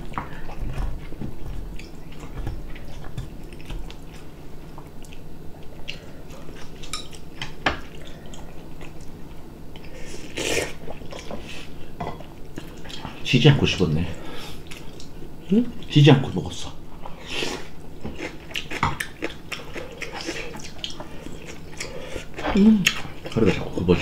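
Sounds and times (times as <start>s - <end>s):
chewing and wet eating sounds: 0.0s - 13.2s, 14.0s - 15.9s, 17.0s - 24.0s.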